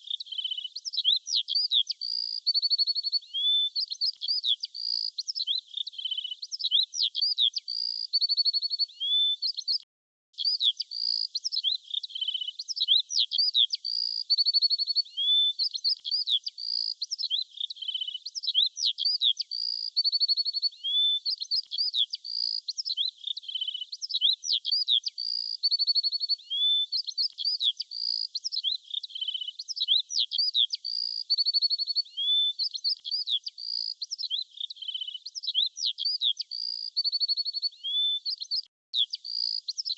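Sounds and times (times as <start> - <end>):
bird chirping and trilling: 0.0 - 9.8, 10.4 - 39.9.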